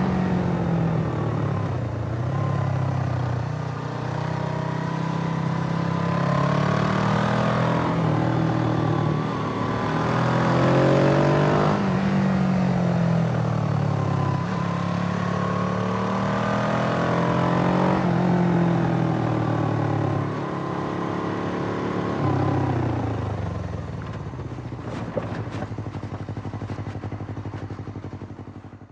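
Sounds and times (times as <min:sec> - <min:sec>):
motorcycle engine revving under load: 0:00.0 - 0:28.9.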